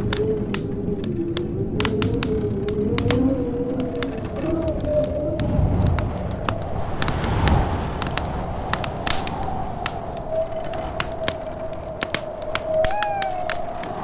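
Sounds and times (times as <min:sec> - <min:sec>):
whistling snowstorm wind: 0:00.0 - 0:14.0
wood fire crackling and popping: 0:00.0 - 0:14.0.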